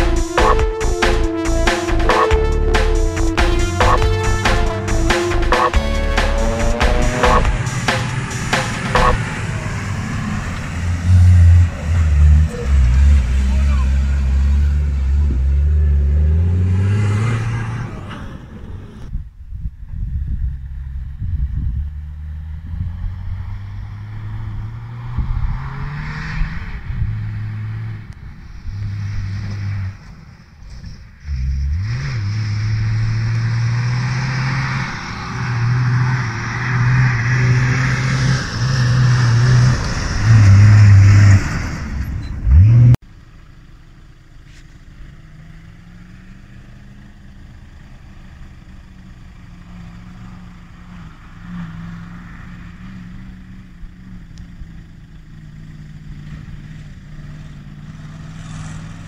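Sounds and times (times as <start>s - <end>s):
off-road vehicle engine revving: 0.0s - 19.1s, 20.2s - 43.0s, 45.2s - 59.0s.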